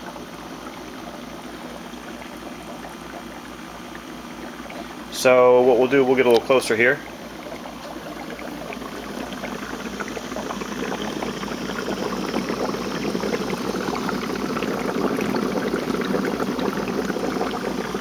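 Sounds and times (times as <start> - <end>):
crackly air bubbling: 0.0 - 18.0.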